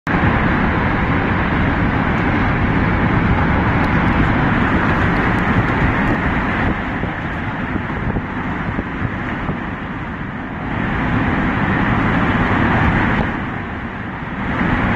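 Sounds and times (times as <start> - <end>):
car road and engine noise: 0.0 - 14.9.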